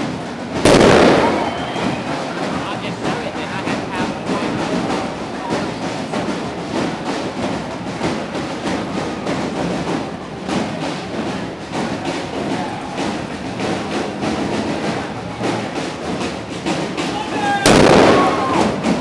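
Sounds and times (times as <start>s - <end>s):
procession drumming: 0.0s - 19.0s
street noise: 0.0s - 19.0s.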